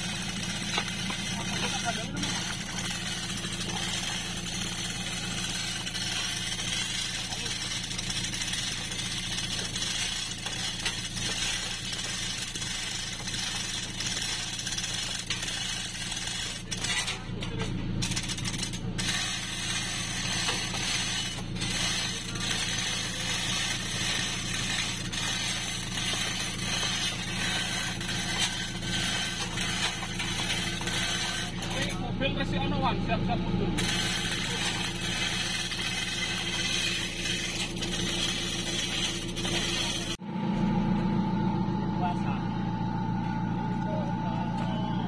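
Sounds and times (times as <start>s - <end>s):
truck engine running: 0.0s - 45.0s.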